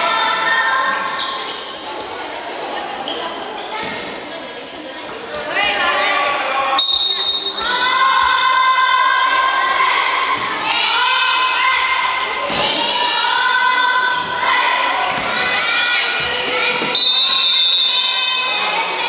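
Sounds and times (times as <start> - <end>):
children shouting: 0.0 - 4.0, 7.4 - 19.0.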